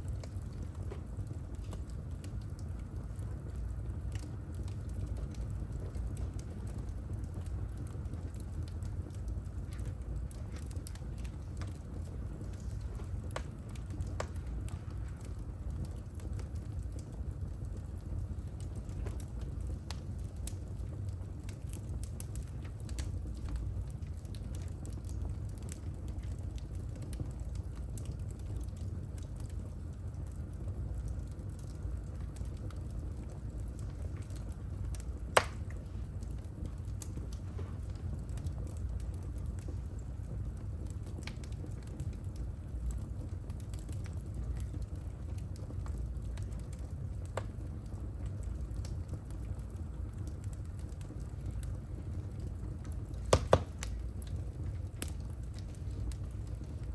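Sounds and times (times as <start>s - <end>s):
low fire rumble: 0.0s - 56.9s
wood fire crackling and popping: 0.0s - 56.9s.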